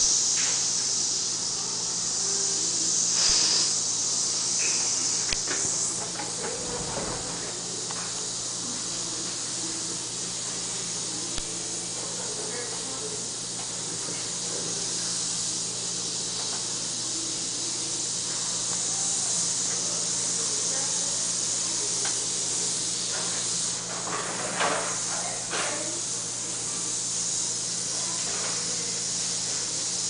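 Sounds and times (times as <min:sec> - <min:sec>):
dental suction hissing: 0:00.0 - 0:30.0
low electrical hum: 0:00.0 - 0:30.0.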